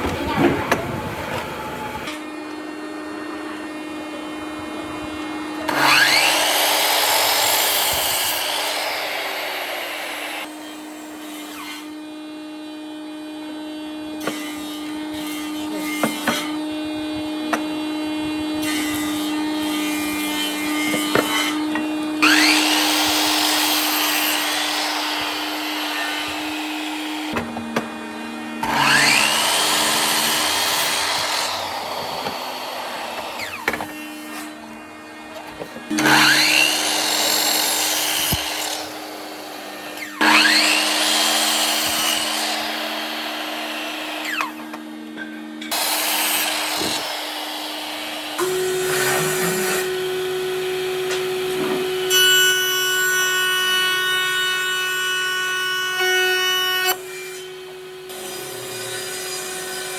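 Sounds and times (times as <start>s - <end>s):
power tool cutting wood: 0.0s - 59.9s.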